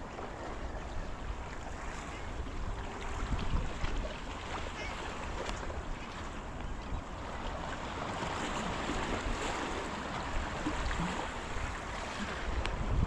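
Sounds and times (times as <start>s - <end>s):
wind rumbling on microphone: 0.0s - 13.0s
waves splashing against rocks: 1.6s - 13.0s.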